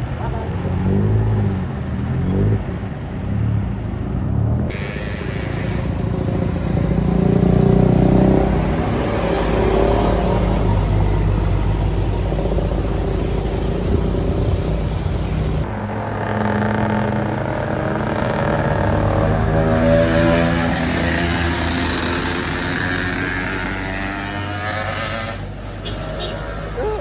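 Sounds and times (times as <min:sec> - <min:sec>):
bus diesel engine: 0:00.0 - 0:27.0
heavy traffic passing: 0:00.0 - 0:27.0.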